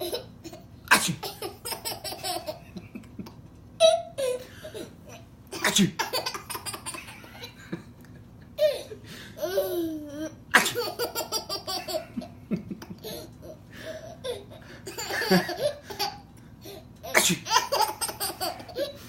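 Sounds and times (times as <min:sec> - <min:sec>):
baby laughing: 0:00.0 - 0:03.1, 0:03.8 - 0:07.6, 0:08.6 - 0:19.0.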